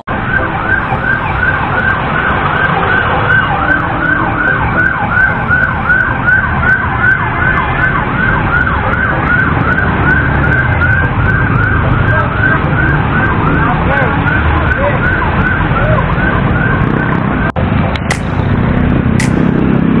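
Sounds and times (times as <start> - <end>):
road traffic rumble: 0.0 - 20.0
wind: 0.0 - 20.0
siren yelping: 0.1 - 17.5.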